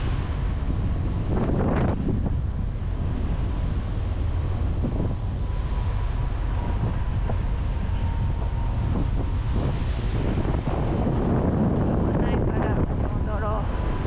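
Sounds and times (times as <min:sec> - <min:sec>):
low rumble of ship and sea: 0:00.0 - 0:14.0
wind buffeting microphone: 0:00.0 - 0:14.0.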